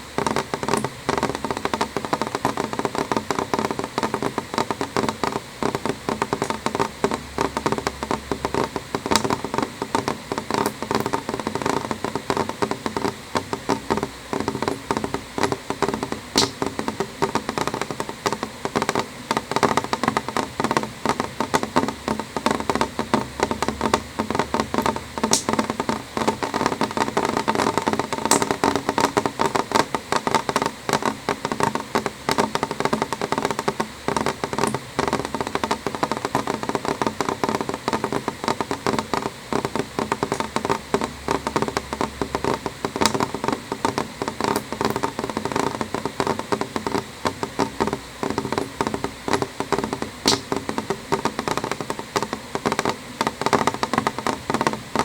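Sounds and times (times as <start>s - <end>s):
raindrops tapping on a window: 0.0s - 55.0s.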